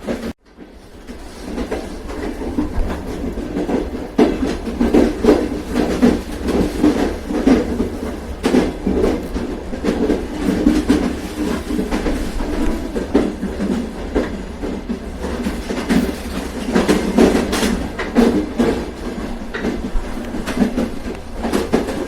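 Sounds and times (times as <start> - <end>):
train rumbling on rails: 0.0 - 22.0
wheels knocking and clacking: 0.0 - 22.0.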